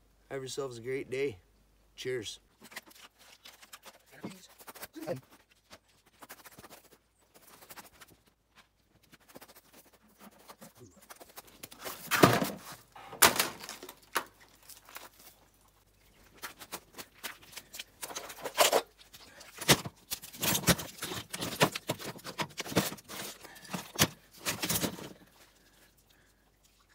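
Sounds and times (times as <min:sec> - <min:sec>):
hands handling plastic and wire scrap: 0:02.6 - 0:08.2, 0:09.0 - 0:25.6.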